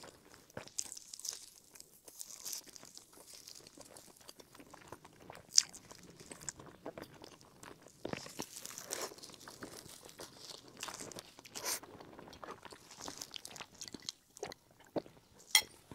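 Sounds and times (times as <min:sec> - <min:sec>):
chewing bread: 0:00.0 - 0:15.9.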